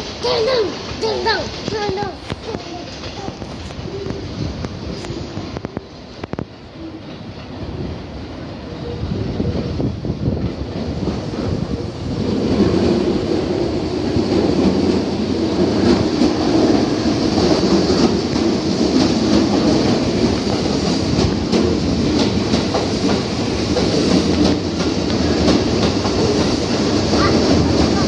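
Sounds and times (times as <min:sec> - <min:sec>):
wheels clicking over rail joints: 0:00.0 - 0:07.6, 0:10.2 - 0:28.0
train rumbling on tracks: 0:00.0 - 0:28.0.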